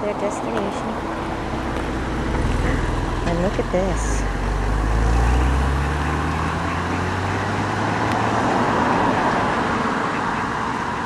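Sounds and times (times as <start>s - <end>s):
steady background rush: 0.0s - 11.0s
vehicle engine humming: 0.0s - 11.0s.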